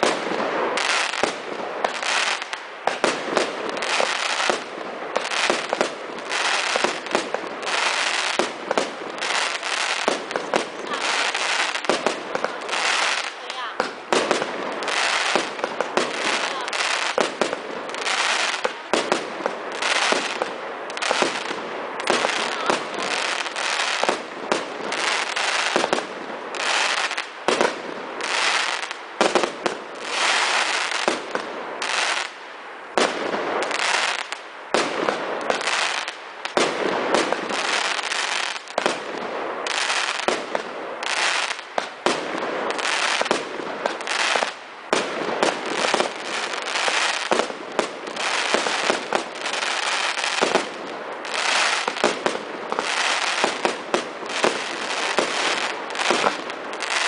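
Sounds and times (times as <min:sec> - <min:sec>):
firework barrage bangs and crackle: 0:00.0 - 0:57.0.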